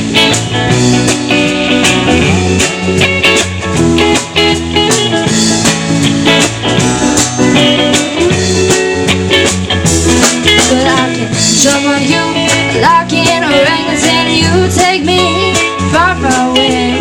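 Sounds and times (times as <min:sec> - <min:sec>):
bass guitar: 0:00.0 - 0:17.0
electric guitar: 0:00.0 - 0:17.0
sliding guitar notes: 0:00.0 - 0:17.0
steady drum beat: 0:00.0 - 0:17.0.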